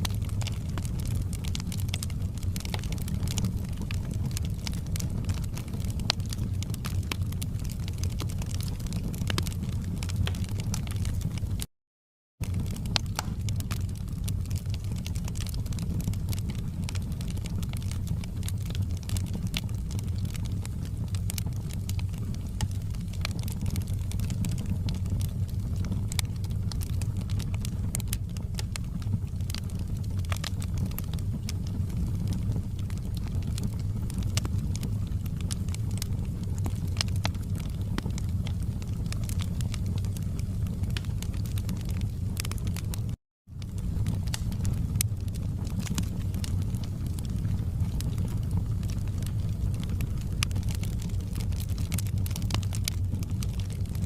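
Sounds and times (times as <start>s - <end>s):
steady low rumble: 0.0s - 11.6s, 12.4s - 54.0s
wood fire crackling: 0.0s - 11.7s, 12.4s - 54.0s.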